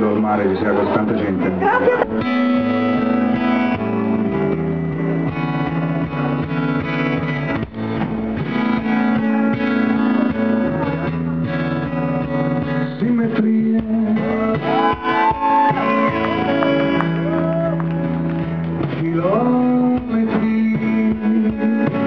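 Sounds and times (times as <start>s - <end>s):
bass guitar: 0.0s - 22.0s
electric guitar: 0.0s - 22.0s
drums: 0.8s - 22.0s
strummed acoustic guitar: 1.6s - 22.0s.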